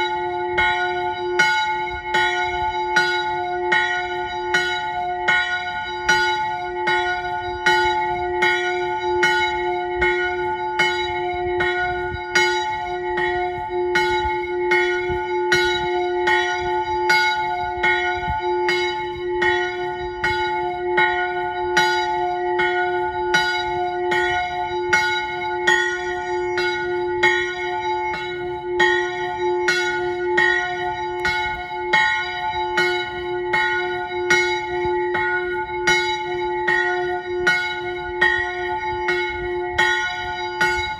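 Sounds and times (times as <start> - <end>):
chapel bell ringing: 0.0 - 40.9.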